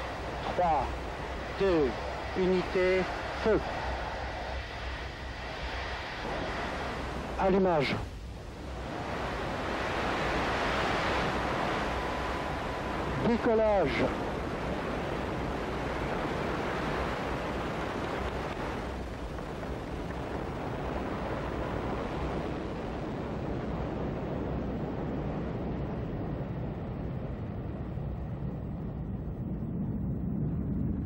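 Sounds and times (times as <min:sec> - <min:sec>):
rocket engines roaring: 0:00.0 - 0:31.0.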